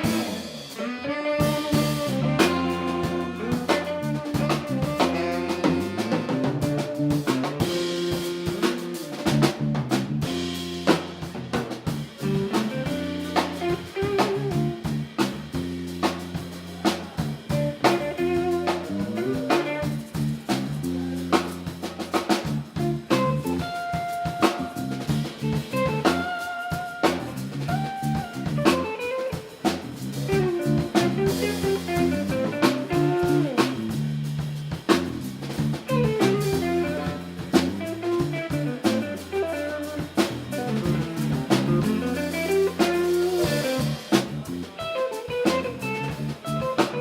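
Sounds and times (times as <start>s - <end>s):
guitar lead notes: 0.0s - 16.1s, 17.5s - 20.0s, 22.7s - 29.6s, 30.3s - 34.0s, 35.8s - 47.0s
drum kit beat: 0.0s - 47.0s
live band playing: 0.0s - 47.0s
walking bass line: 0.0s - 47.0s.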